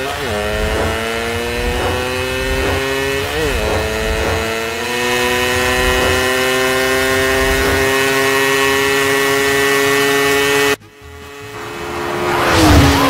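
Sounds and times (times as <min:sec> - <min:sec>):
cartoon motorcycle engine drone: 0:00.0 - 0:13.0.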